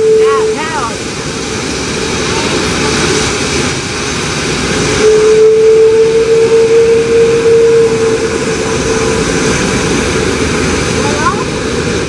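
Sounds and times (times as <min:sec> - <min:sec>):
jet engine whine: 0:00.0 - 0:12.0
jet engines rushing: 0:00.0 - 0:12.0.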